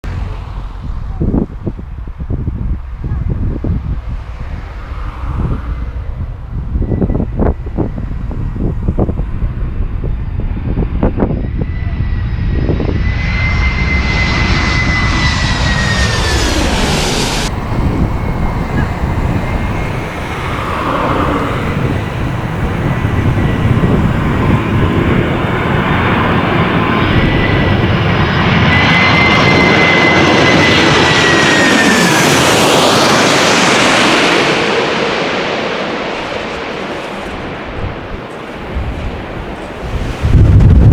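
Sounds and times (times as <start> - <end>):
jet airliner engine whine: 0.0 - 40.9
wind rumble on microphone: 0.1 - 40.9.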